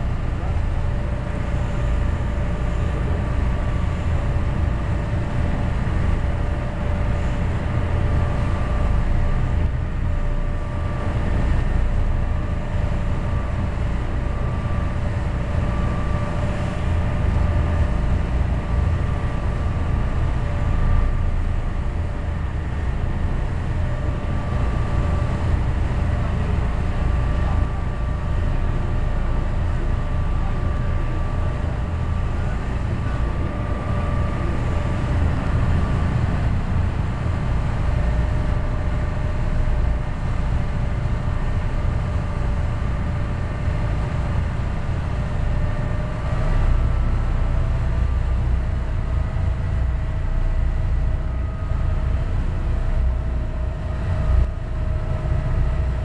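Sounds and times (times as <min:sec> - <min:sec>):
boat engine rumbling: 0:00.0 - 0:56.0
wind: 0:00.0 - 0:56.0.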